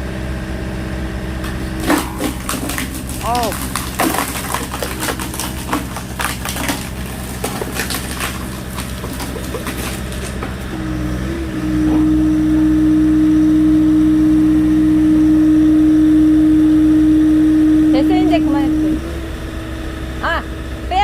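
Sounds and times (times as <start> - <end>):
loud steady hum: 0.0 - 21.0
machine engine running: 0.0 - 21.0.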